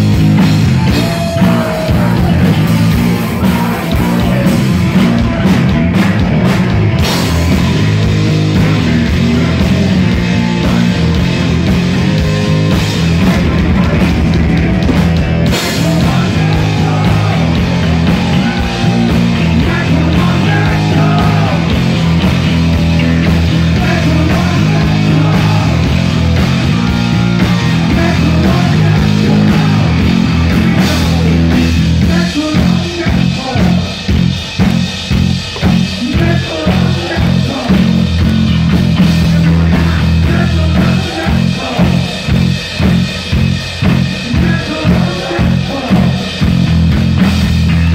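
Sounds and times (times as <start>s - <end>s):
heavy metal band playing live: 0.0s - 47.9s.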